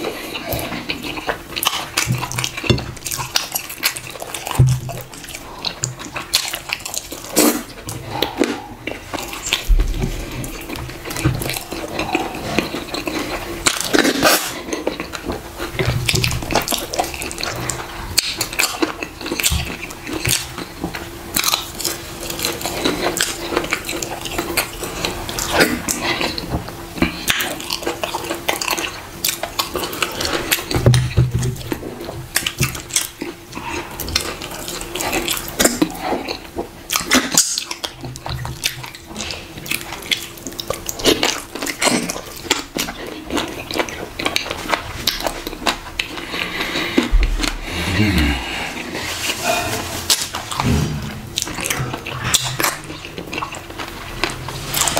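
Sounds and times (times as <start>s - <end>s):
lip smacks and chewing: 0.0s - 47.8s, 51.4s - 54.9s.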